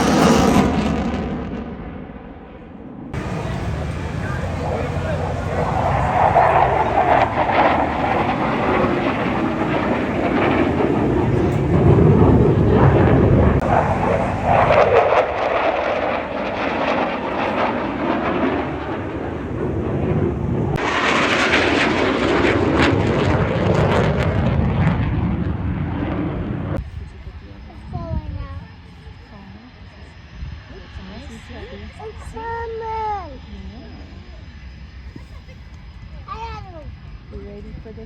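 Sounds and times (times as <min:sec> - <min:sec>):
plane engine flying past: 0:00.0 - 0:38.0.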